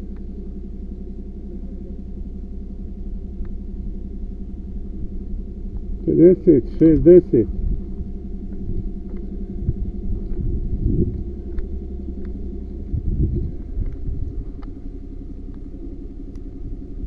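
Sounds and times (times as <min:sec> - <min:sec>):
machine rumble and hum: 0:00.0 - 0:17.0.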